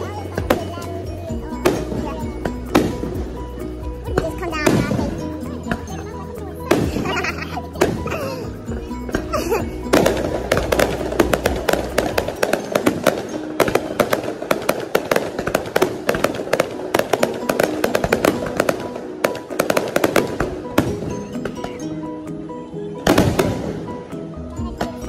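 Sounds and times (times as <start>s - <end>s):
fireworks popping and crackling: 0.0s - 6.0s, 6.6s - 22.0s, 23.0s - 25.0s
music playing: 0.0s - 25.0s.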